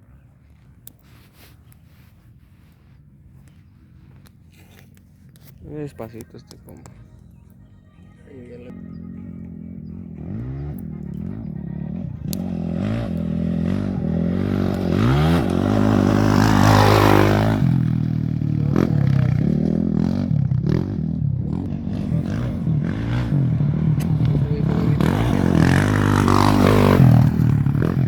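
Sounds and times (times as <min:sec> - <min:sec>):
off-road motorcycles revving past: 0:00.4 - 0:28.0.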